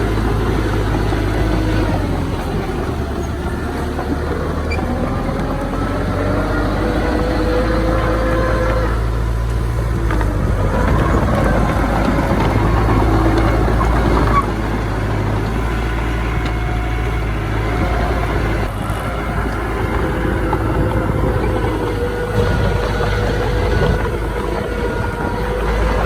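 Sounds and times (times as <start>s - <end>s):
earthmoving machinery diesel rumble: 0.0s - 26.0s.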